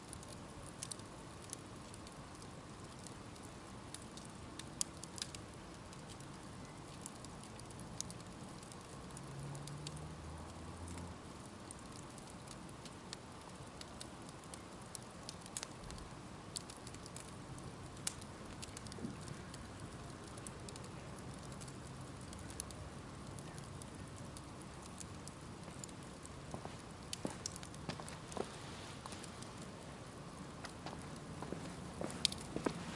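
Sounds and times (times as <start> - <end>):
bonfire burning with hiss: 0.0 - 32.9
fire crackles and pops: 0.0 - 32.9.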